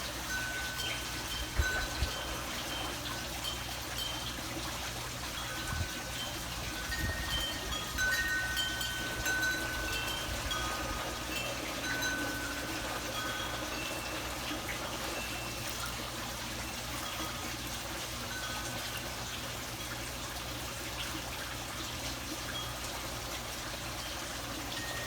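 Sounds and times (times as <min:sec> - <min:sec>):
wind chimes ringing: 0:00.0 - 0:20.3, 0:22.5 - 0:25.0
trickling water: 0:00.0 - 0:25.0.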